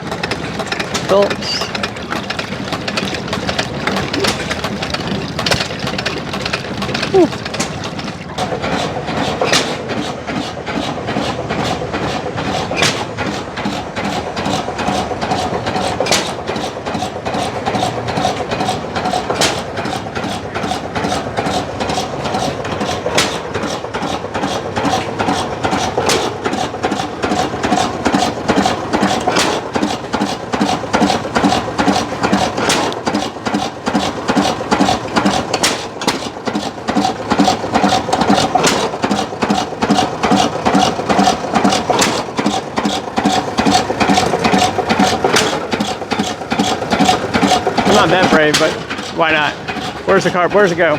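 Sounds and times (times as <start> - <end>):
stationary engines clattering: 0.0 - 50.9.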